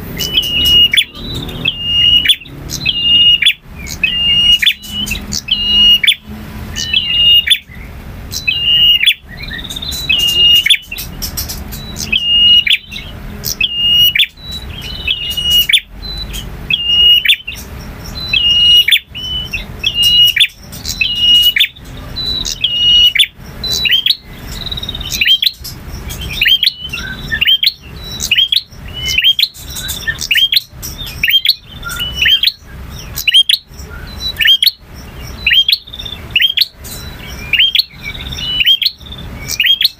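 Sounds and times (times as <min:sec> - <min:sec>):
bird singing sharp notes: 0:00.0 - 0:39.9.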